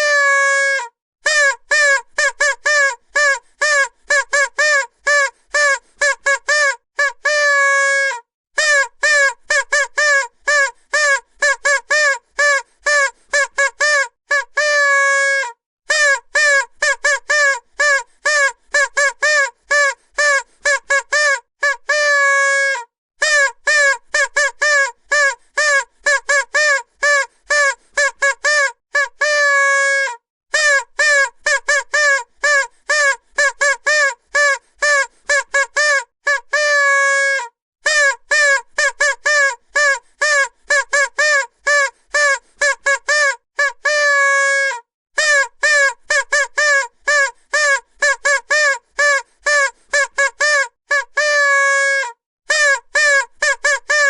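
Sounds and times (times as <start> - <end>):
vuvuzela toots: 0.0 - 54.0.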